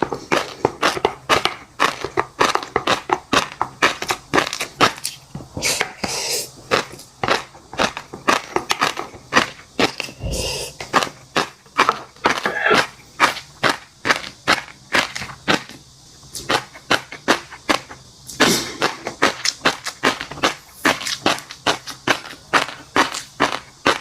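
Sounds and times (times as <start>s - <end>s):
crunchy seafood chewing: 0.0s - 5.2s, 6.6s - 10.2s, 10.8s - 15.8s, 16.4s - 24.0s.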